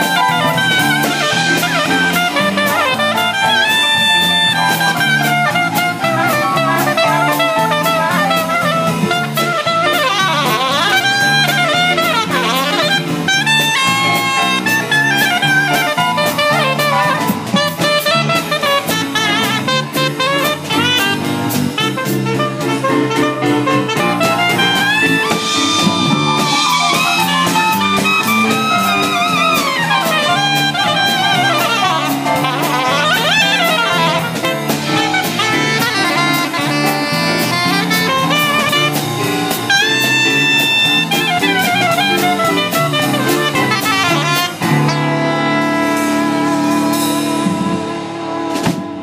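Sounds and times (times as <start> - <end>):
bass guitar: 0.0 - 49.0
drum kit steady beat: 0.0 - 49.0
electric keyboard: 0.0 - 49.0
soprano saxophone melody: 0.0 - 49.0.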